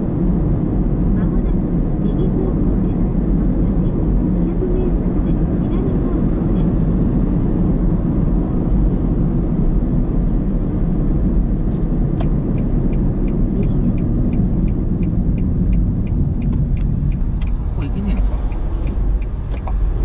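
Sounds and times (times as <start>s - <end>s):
car cabin road and engine noise: 0.0s - 20.0s.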